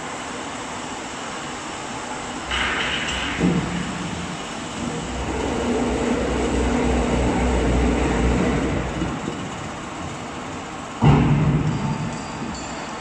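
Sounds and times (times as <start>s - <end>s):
log debarker machine rumbling: 2.1s - 13.0s.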